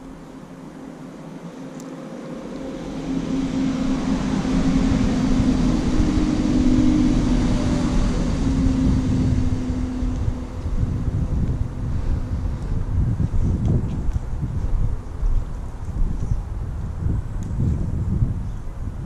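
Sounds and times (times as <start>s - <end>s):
motor engine hum: 0.0s - 19.0s.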